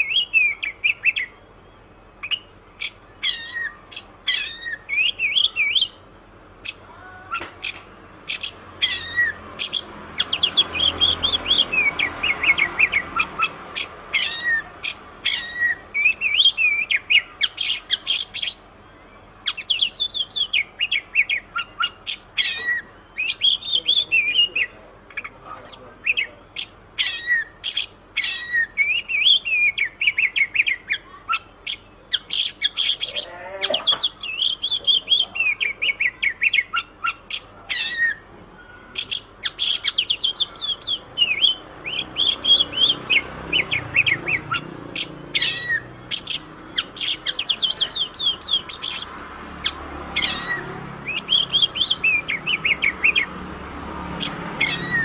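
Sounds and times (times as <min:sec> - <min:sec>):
magpie-robin singing: 0:00.0 - 0:55.0.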